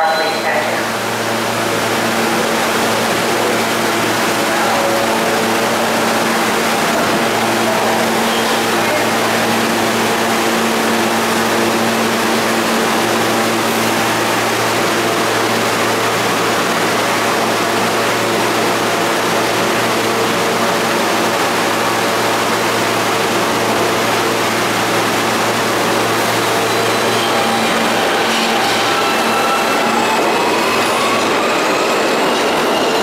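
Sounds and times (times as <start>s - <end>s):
subway train equipment humming: 0.0s - 33.0s.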